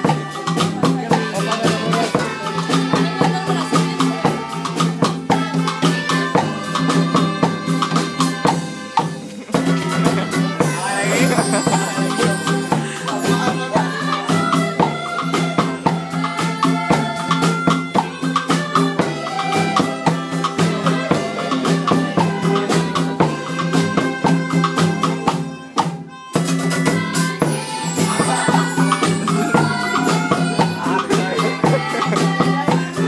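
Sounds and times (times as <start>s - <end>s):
shaken percussion: 0.0s - 33.0s.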